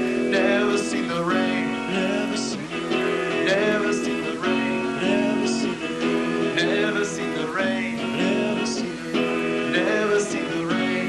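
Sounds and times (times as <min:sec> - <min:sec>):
live band with gliding guitar notes: 0:00.0 - 0:11.0.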